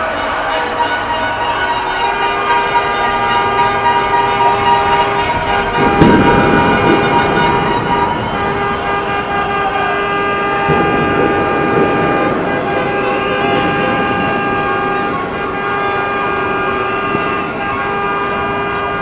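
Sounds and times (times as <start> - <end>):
crowd shouting: 0.0 - 19.0
horns sounding: 0.0 - 19.0.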